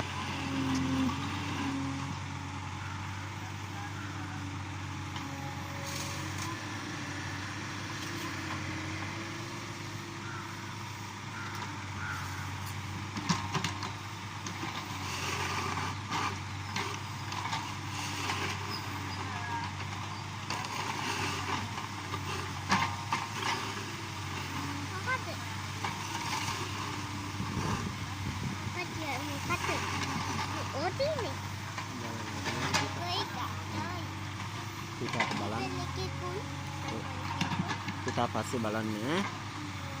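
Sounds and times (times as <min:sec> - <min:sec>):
diesel engine humming: 0:00.0 - 0:40.0.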